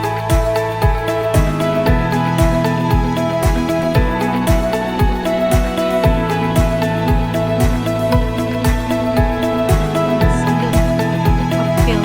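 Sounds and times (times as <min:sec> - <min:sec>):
music with held chords and beat: 0:00.0 - 0:12.0.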